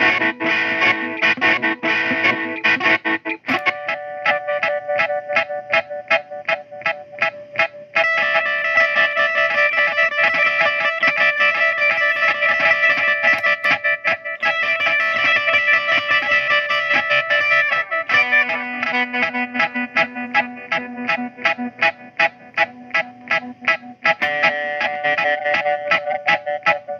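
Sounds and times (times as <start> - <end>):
electric guitar through effects: 0.0 - 26.9.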